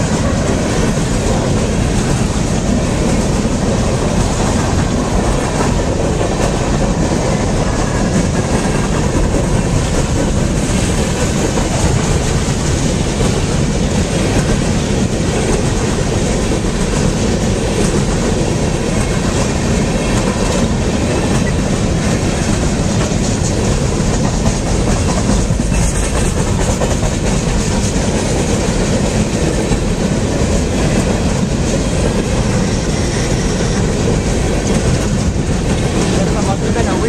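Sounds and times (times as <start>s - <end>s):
train wheels rumbling on rails: 0.0s - 37.0s
wheels clattering over rail joints: 0.0s - 37.0s.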